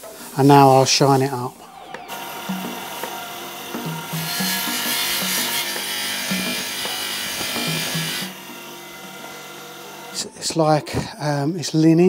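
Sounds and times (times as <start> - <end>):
polishing wheel hissing on metal: 0.0 - 10.3.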